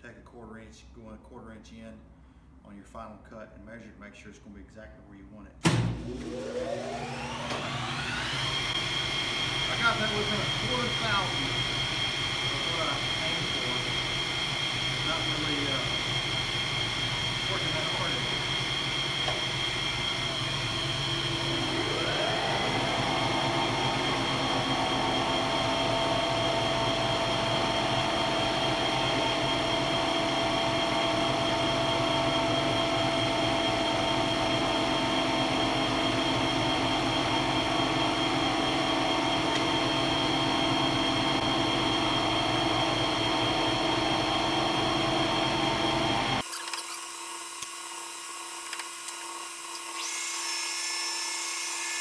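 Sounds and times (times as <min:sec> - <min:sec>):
machine tool motor whine: 0:05.9 - 0:52.0.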